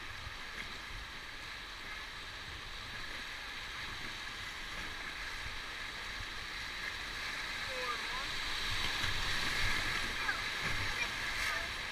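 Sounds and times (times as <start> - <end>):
whitewater rushing: 0.0 - 11.9.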